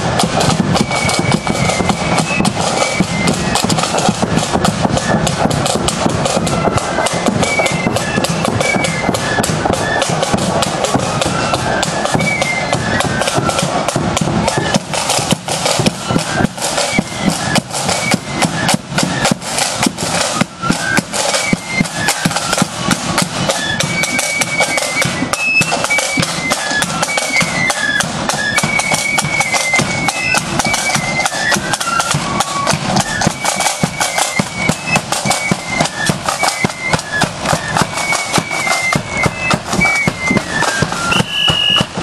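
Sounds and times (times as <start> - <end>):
flutes playing melody: 0.0 - 42.0
rapid side drum beating: 0.0 - 42.0.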